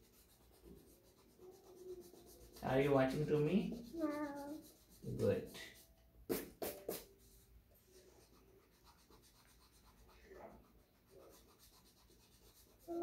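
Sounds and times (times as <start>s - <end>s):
pen scratching on paper: 0.0s - 5.8s, 6.6s - 13.0s.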